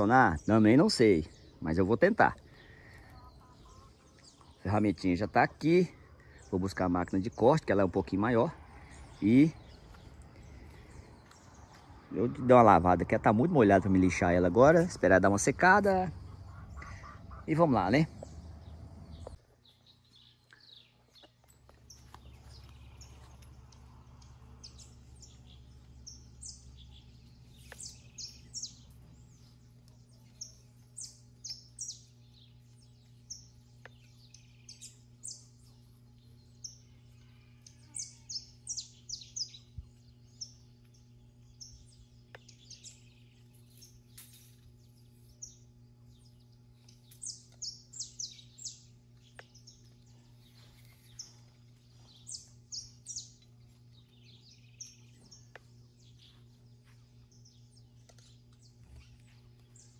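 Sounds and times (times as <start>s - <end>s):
faint low hum: 0.0s - 59.9s
small birds chirping: 0.0s - 59.9s.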